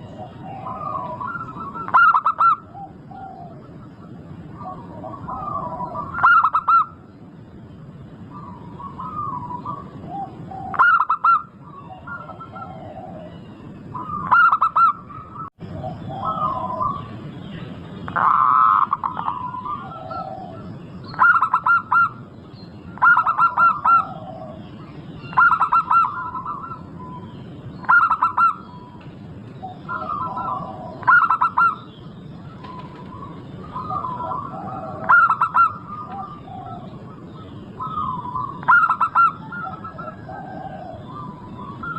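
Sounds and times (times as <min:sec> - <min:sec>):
doves cooing: 0:00.0 - 0:07.2, 0:08.2 - 0:17.3, 0:18.1 - 0:22.3, 0:22.9 - 0:41.9.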